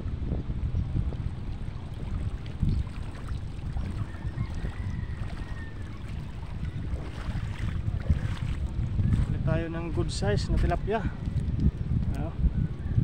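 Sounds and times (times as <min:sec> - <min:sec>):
wind buffeting microphone: 0:00.0 - 0:13.0
water moving: 0:01.0 - 0:12.1.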